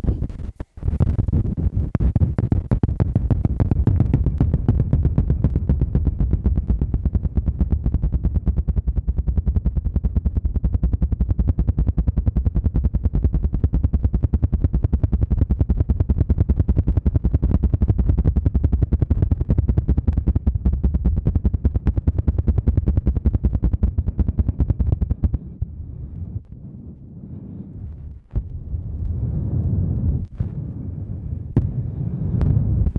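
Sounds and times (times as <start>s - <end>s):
low fluttering thumps on microphone: 0.0s - 32.9s.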